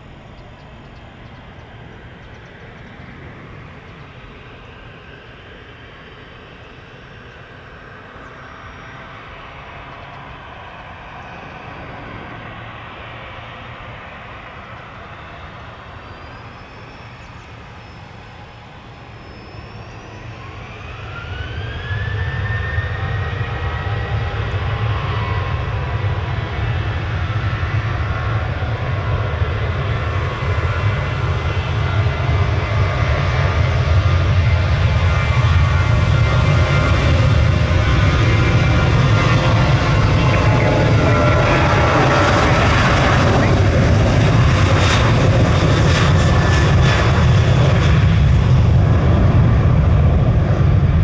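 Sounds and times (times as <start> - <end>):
jet engine whine: 0.0 - 51.0.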